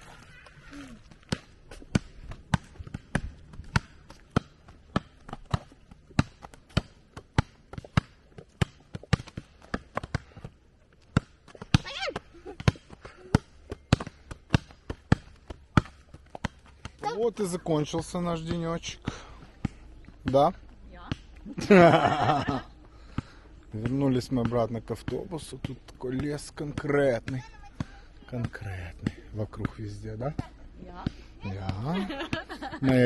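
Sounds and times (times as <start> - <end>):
ball bouncing on asphalt: 0.4 - 33.0.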